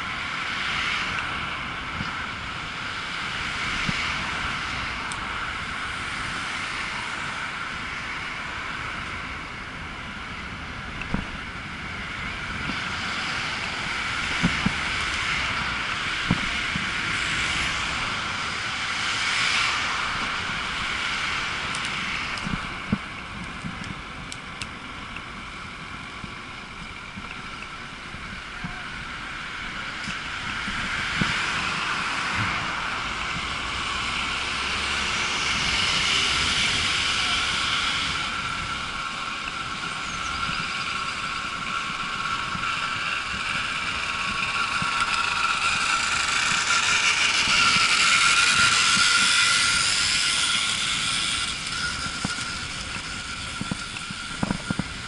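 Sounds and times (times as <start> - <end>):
tyres rushing on tarmac: 0.0 - 55.0
thin motor whine: 0.1 - 55.0.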